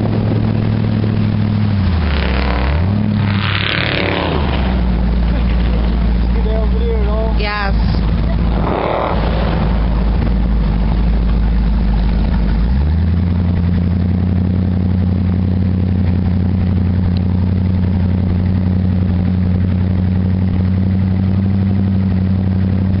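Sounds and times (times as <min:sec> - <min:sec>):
motorboat engine running: 0:00.0 - 0:23.0.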